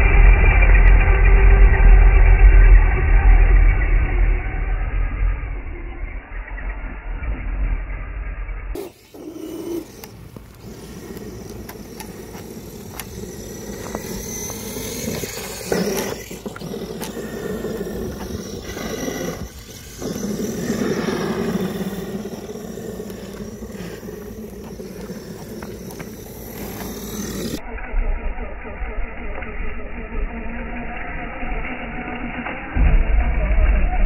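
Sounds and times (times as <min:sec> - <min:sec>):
electric rc truck motor whining: 0:00.0 - 0:34.0.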